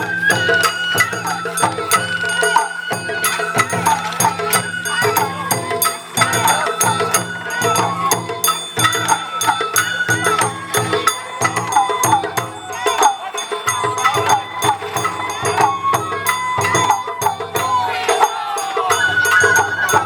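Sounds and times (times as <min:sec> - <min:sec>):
bamboo flute melody: 0:00.0 - 0:20.0
fast drum strikes: 0:00.0 - 0:20.0.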